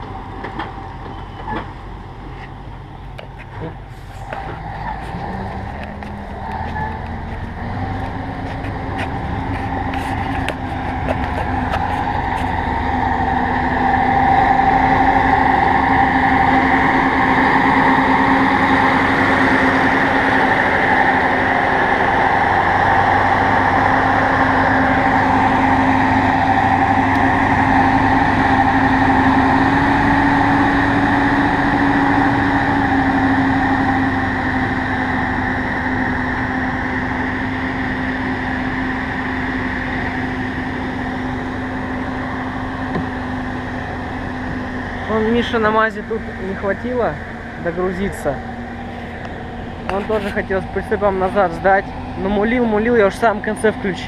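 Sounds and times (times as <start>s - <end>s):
diesel truck engine droning: 0.0s - 54.0s.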